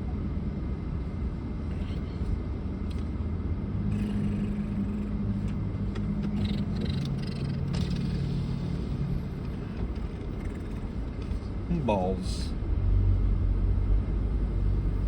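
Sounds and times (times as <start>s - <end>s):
car engine and road rumble: 0.0s - 15.0s
low hum: 0.0s - 15.0s.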